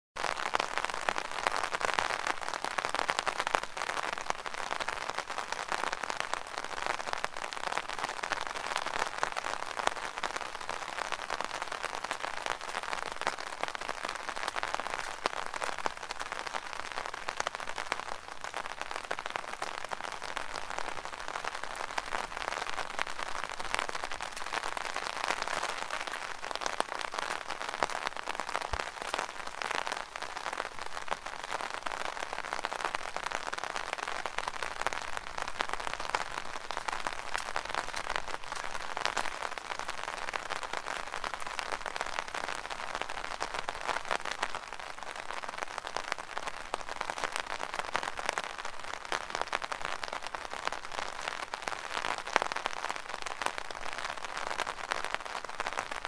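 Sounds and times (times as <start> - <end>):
rain on an umbrella: 0.2 - 56.0.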